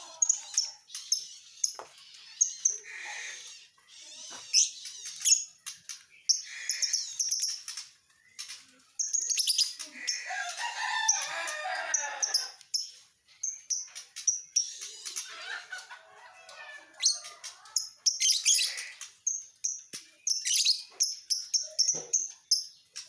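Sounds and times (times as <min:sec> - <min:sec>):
bird chattering and chirping: 0:00.0 - 0:23.0.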